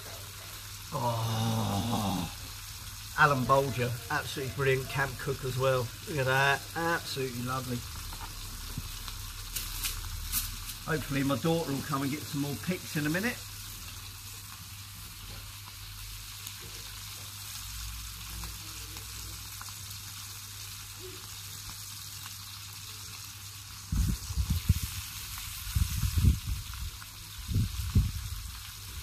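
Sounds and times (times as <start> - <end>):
steaks sizzling in a pan: 0.0 - 29.0.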